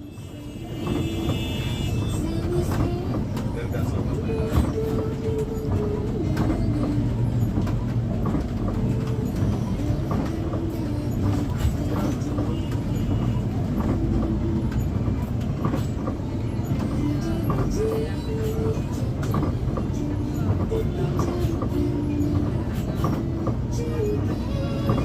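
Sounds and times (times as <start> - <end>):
bus engine and road rumble: 0.0 - 25.0
light rattles and clicks: 0.3 - 25.0.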